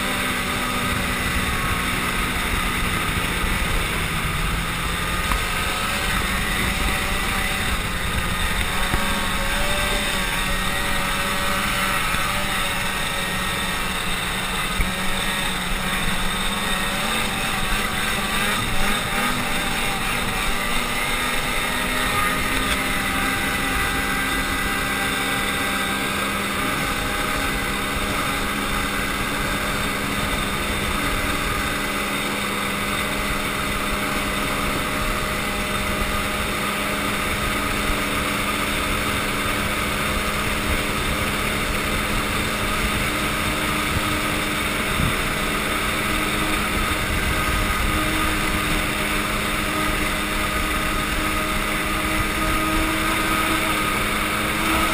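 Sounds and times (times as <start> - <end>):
snowmobile running at speed: 0.0 - 54.9.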